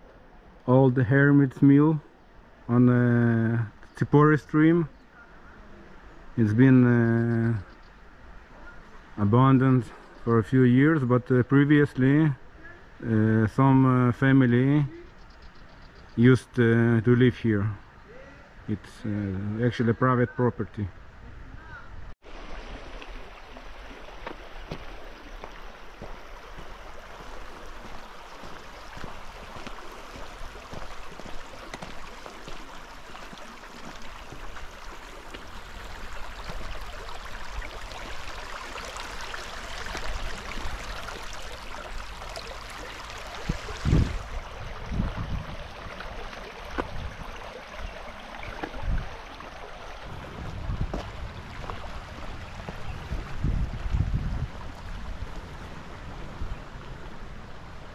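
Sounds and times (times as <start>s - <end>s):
stream water running: 0.0s - 21.1s, 22.2s - 57.9s.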